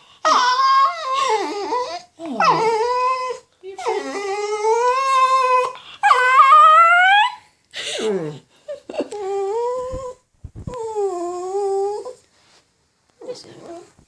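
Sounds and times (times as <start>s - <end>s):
dog whining: 0.2s - 12.2s.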